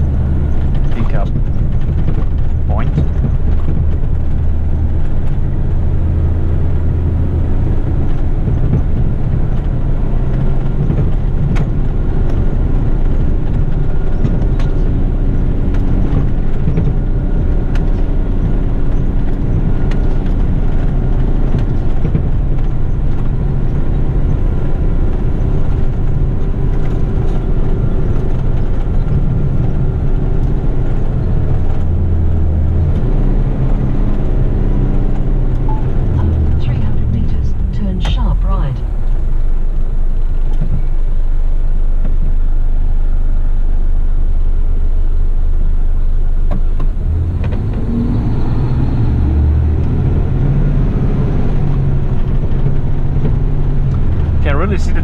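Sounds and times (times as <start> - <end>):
road noise: 0.0 - 55.0
truck diesel engine running: 0.0 - 55.0.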